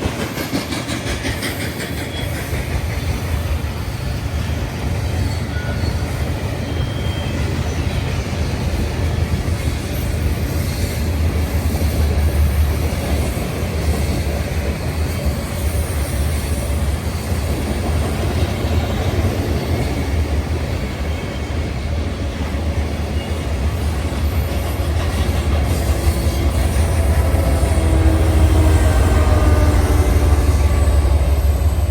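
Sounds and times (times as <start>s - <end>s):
train rumbling along track: 0.0s - 31.9s.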